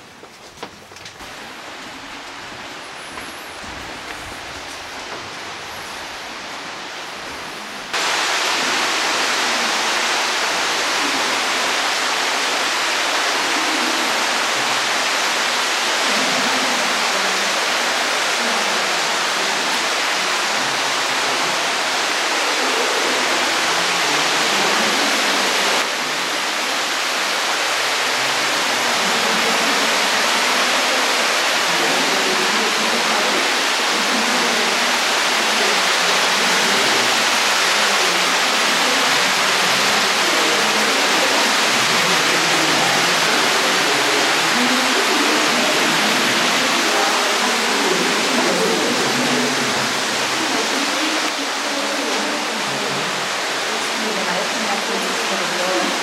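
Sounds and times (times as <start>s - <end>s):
river rushing over rocks: 7.6s - 56.0s.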